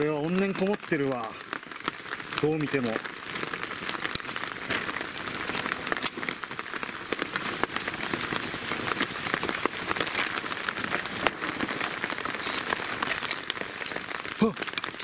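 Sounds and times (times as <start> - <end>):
rain drops ticking: 0.0 - 15.0
rain falling: 0.0 - 15.0.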